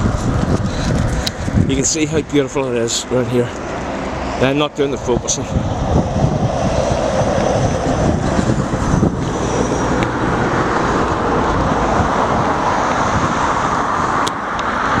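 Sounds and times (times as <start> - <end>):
cars passing on busy road: 0.0 - 15.0
wind buffeting microphone: 0.0 - 15.0.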